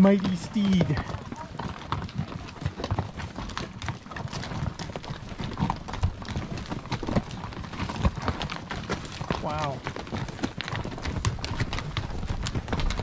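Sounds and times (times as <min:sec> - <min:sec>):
hooves clopping on rocky trail: 0:00.0 - 0:13.0.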